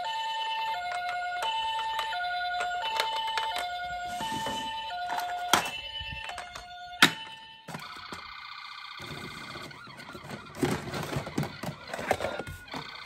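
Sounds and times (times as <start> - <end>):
toy electronic two-tone siren: 0.0 - 13.0.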